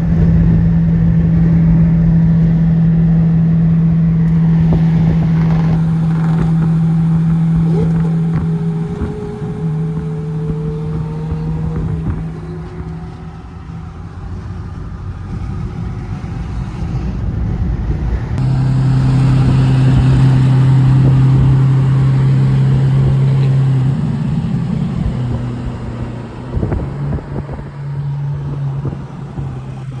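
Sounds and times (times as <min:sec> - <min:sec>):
sports car engine drone: 0:00.0 - 0:30.0.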